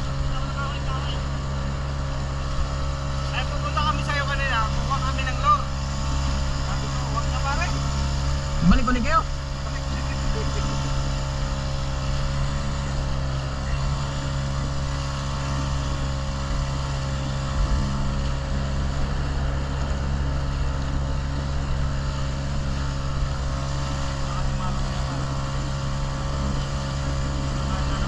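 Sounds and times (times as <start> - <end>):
motorboat engine droning: 0.0 - 28.0.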